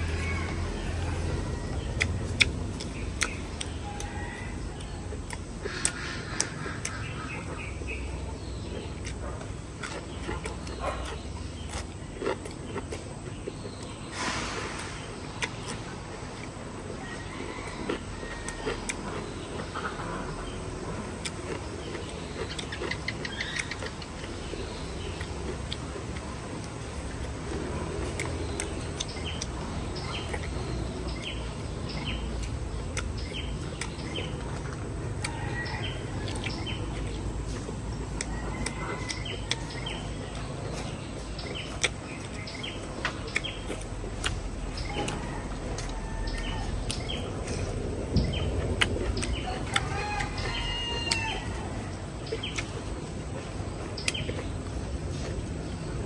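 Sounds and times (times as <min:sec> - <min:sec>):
chewing crispy pork: 0:00.0 - 0:56.0
small birds chirping: 0:00.0 - 0:56.0.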